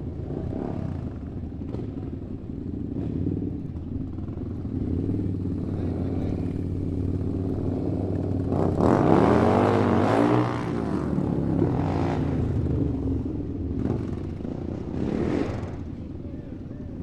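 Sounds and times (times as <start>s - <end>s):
motorcycle engine revving: 0.0s - 17.0s
motorcycle engine running: 0.0s - 17.0s.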